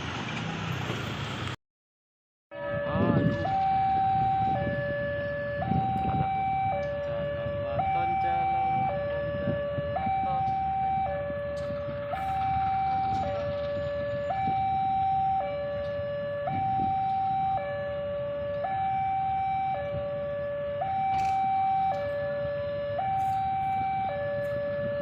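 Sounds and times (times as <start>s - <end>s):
two-tone siren: 2.5s - 25.0s.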